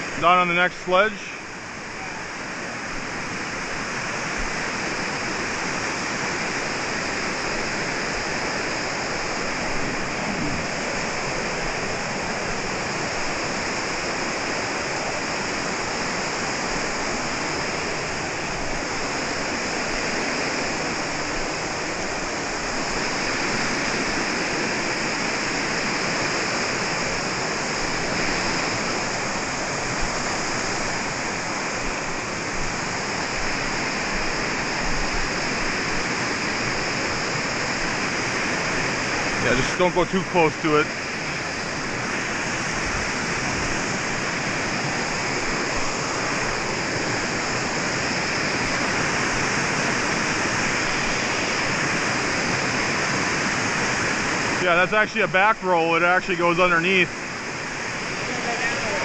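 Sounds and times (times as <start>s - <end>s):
creek water rushing over rocks: 0.0s - 59.0s.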